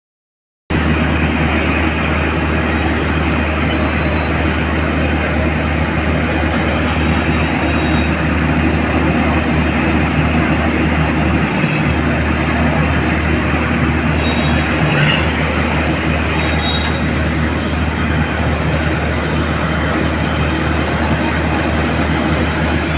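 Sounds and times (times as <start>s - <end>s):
crane engine droning: 0.7s - 22.9s
rumbling noise: 0.7s - 22.9s.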